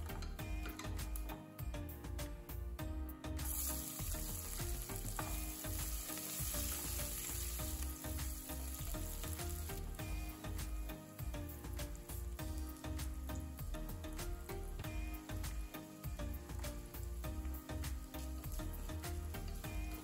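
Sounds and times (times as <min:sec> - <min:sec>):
background music: 0:00.0 - 0:20.0
onions sizzling in hot oil: 0:03.4 - 0:20.0.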